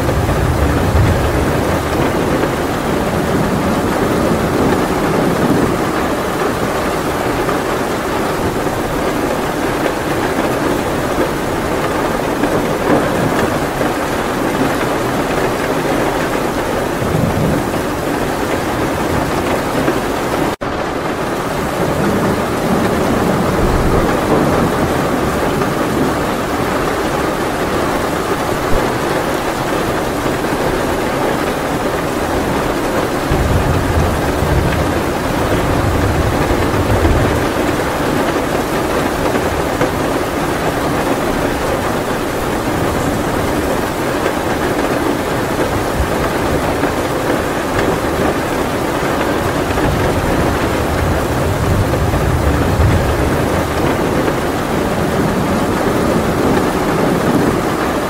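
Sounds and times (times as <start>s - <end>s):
heavy rain: 0.0s - 58.0s
low thunder rumbling: 0.0s - 58.0s.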